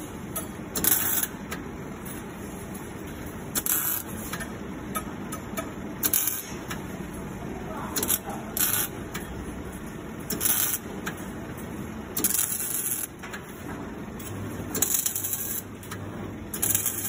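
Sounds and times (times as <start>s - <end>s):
steady low hum: 0.0s - 17.0s
welding arc crackle and sizzle: 0.0s - 17.0s.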